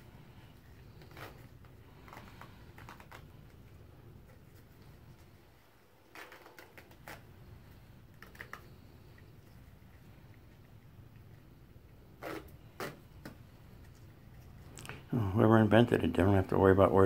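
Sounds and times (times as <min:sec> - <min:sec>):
bandage crackling and rustling: 0:00.0 - 0:15.1.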